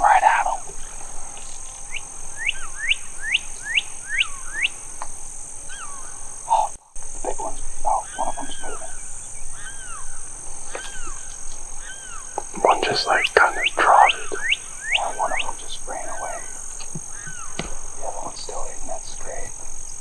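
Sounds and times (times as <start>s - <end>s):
songbirds whistling: 0.7s - 6.7s, 7.4s - 20.0s.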